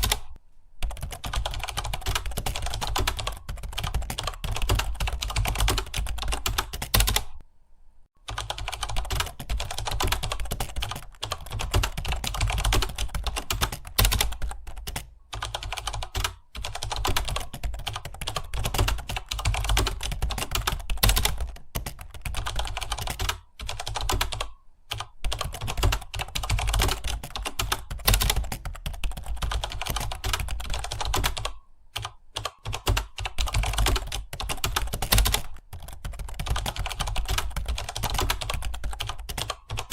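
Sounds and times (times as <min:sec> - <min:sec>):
fast typing on keyboard: 0:00.0 - 0:07.4, 0:08.2 - 0:39.9.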